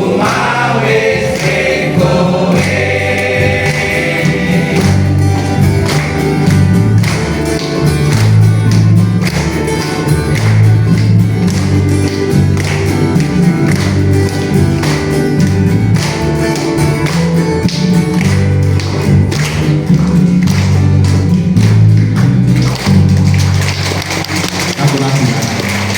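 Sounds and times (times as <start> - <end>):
music with heavy bass line: 0.0 - 23.4
steady percussion beat: 0.0 - 25.4.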